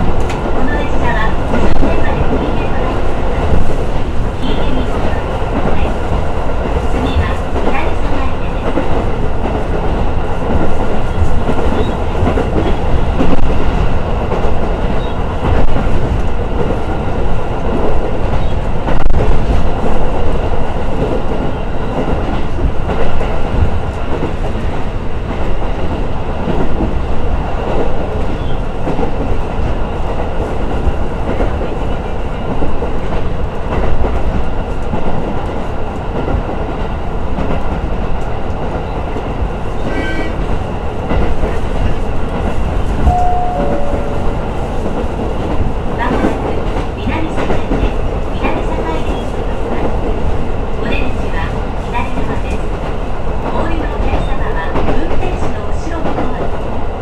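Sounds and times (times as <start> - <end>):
train wheels on rails: 0.0 - 57.0.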